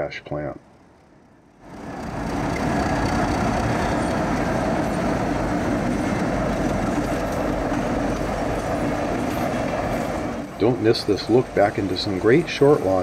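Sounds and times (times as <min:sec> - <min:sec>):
train rumbling on rails: 0:00.0 - 0:13.0
diesel engine running: 0:00.7 - 0:13.0.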